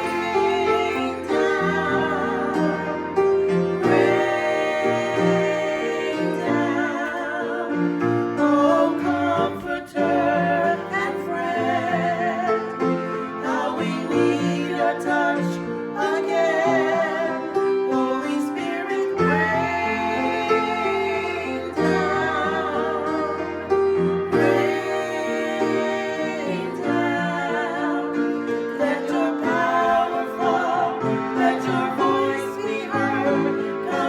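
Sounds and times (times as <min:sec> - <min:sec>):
instrumental accompaniment: 0:00.0 - 0:34.0
person singing with vibrato: 0:00.0 - 0:34.0.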